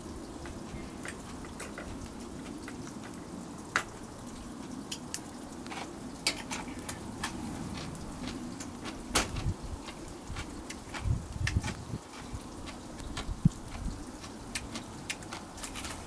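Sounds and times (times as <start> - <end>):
fish sizzling on a grill: 0.0 - 16.0
wood fire crackling and popping: 0.0 - 16.0.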